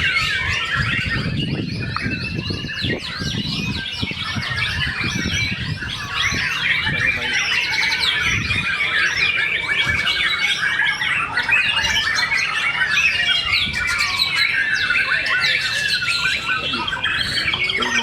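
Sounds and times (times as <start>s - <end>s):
songbird chorus: 0.0s - 18.0s.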